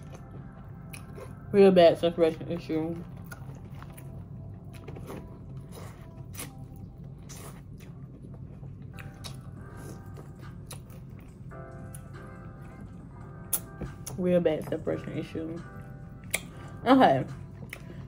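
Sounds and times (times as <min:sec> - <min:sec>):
soft chewing: 0:00.0 - 0:01.5, 0:02.6 - 0:14.7, 0:15.6 - 0:18.0
low steady hum: 0:00.0 - 0:18.0.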